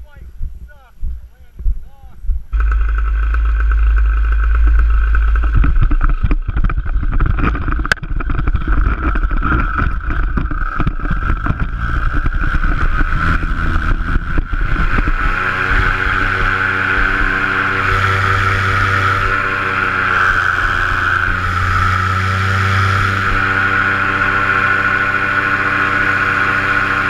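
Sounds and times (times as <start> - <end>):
wind rumble: 0.0 - 27.0
paramotor engine and propeller: 2.5 - 27.0.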